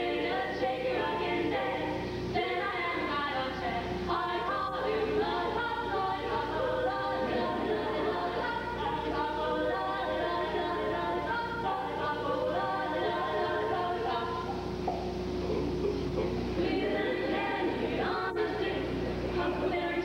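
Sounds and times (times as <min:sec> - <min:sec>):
choir singing in harmony: 0:00.0 - 0:14.8, 0:16.5 - 0:20.0.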